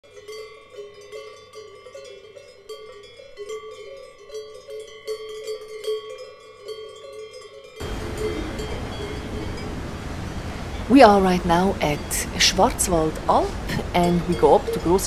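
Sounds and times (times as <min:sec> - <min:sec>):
cowbells clanking: 0:00.0 - 0:15.0.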